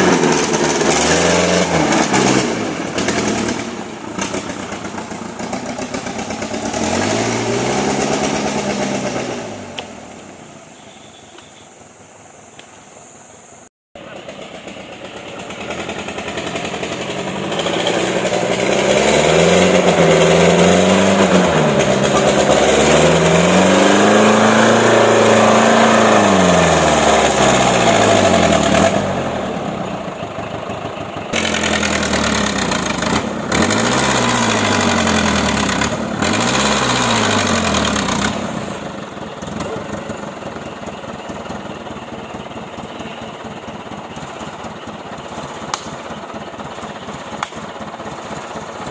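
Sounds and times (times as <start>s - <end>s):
truck diesel engine revving: 0.0s - 10.6s, 14.0s - 48.9s.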